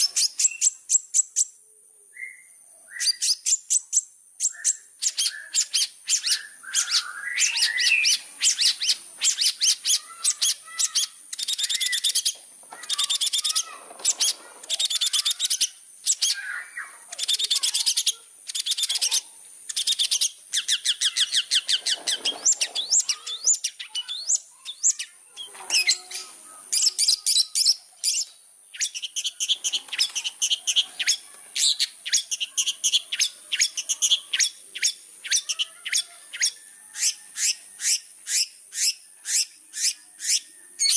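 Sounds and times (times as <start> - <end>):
shrike chattering song: 3.0 - 40.9.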